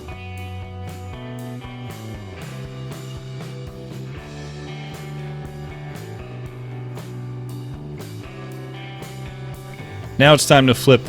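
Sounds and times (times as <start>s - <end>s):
drum kit steady beat: 0.0s - 11.0s
rock guitar: 0.0s - 11.0s.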